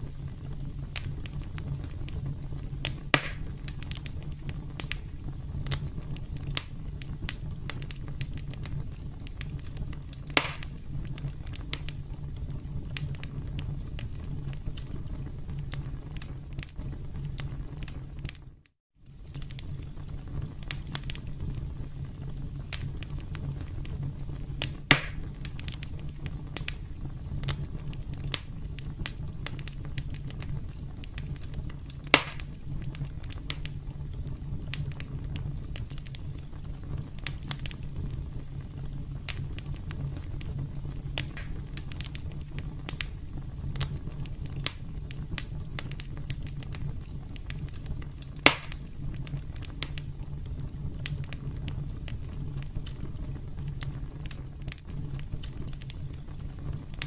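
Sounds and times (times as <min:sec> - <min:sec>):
loud fire pops: 0:00.0 - 0:57.0
low rumble of flames: 0:00.0 - 0:57.0
wood fire crackling: 0:00.0 - 0:57.0.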